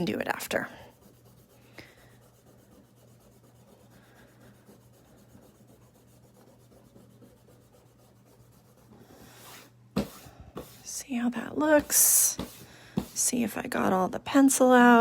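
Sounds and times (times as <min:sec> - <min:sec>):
eraser rubbing on paper: 0:00.0 - 0:13.5.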